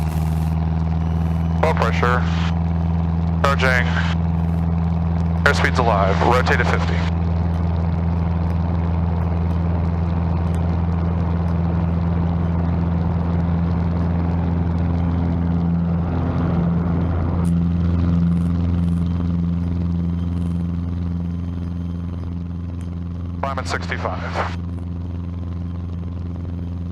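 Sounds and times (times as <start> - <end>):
light aircraft engine and propeller: 0.0 - 26.9.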